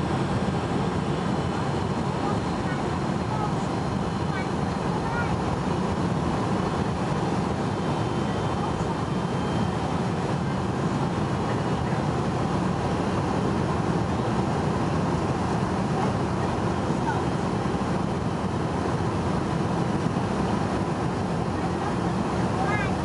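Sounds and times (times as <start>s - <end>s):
aircraft engine and airflow rumble: 0.0s - 23.0s.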